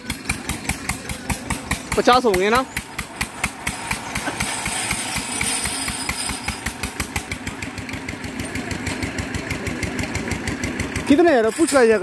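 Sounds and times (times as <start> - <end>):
engine idling with thudding beat: 0.0 - 12.0.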